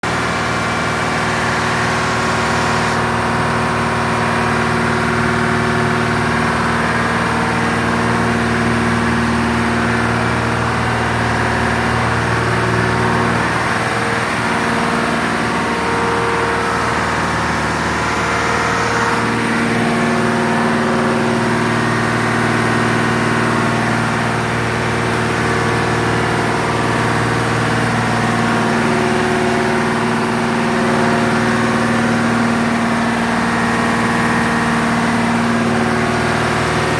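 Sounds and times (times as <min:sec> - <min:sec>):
marine engine droning: 0:00.0 - 0:36.9.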